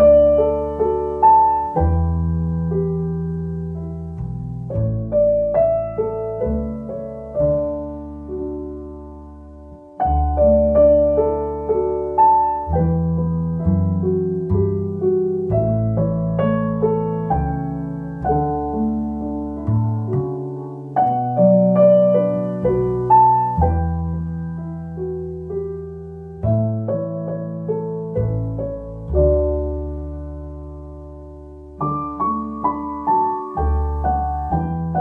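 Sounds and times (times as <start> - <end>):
slow piano music: 0.0 - 35.0.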